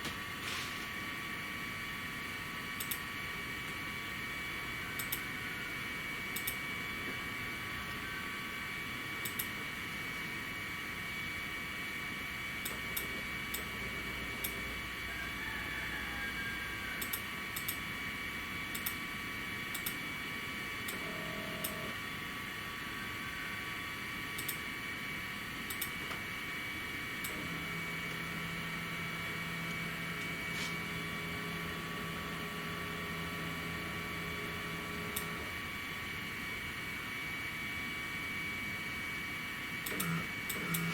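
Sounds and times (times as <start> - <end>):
fan hum: 0.0 - 40.9.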